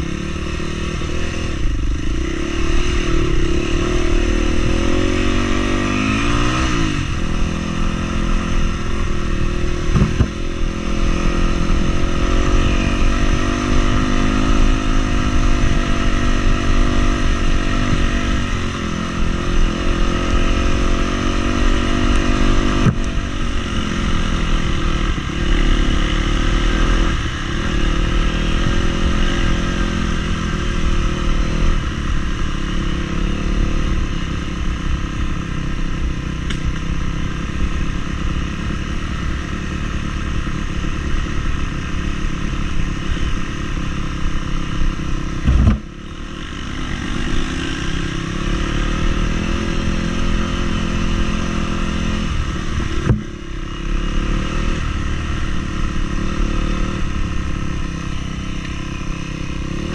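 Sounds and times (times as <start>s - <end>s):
vehicle engine under load: 0.0s - 59.9s.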